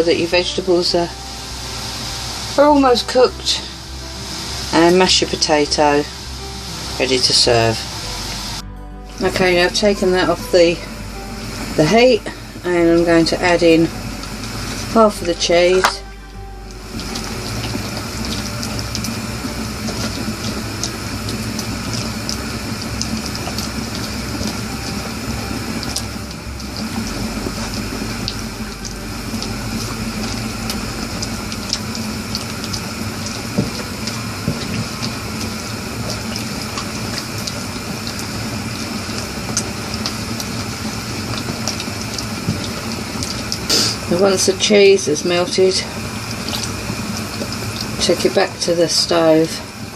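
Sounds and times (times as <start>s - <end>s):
sauce hissing and bubbling in a pan: 0.0s - 8.6s, 9.5s - 49.9s.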